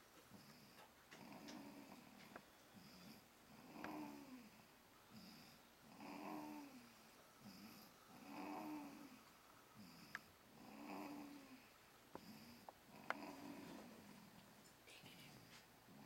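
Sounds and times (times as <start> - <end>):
faint slow snoring: 0.3 - 14.5.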